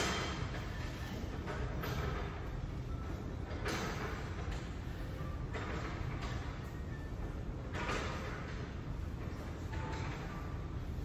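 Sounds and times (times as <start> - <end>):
cable machine rattling rumble: 0.0 - 11.0.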